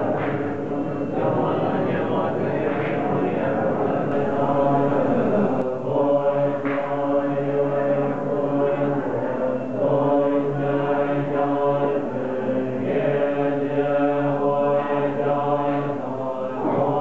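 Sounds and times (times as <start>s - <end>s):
monks chanting in low drone: 0.0s - 17.0s.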